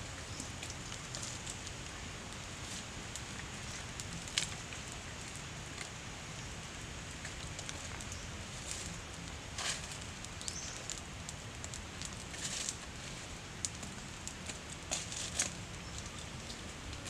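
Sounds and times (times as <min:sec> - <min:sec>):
wood fire crackling: 0:00.0 - 0:17.0
stick scraping embers: 0:00.1 - 0:06.0, 0:07.1 - 0:17.0.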